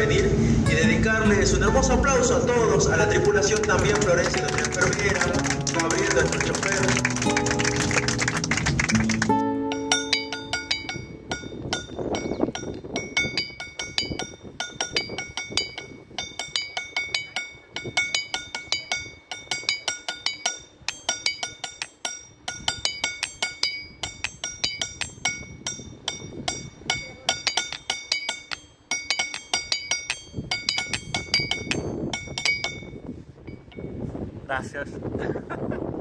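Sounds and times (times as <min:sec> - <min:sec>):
musical stones clinking: 0:03.1 - 0:33.9.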